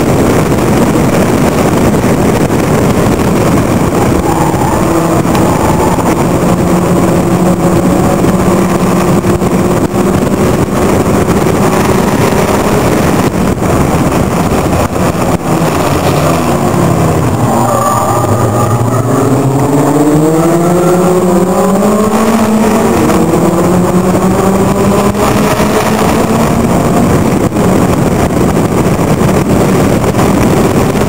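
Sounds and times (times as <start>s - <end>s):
racing car engine running hard: 0.0s - 31.0s
rush of noise: 0.0s - 31.0s.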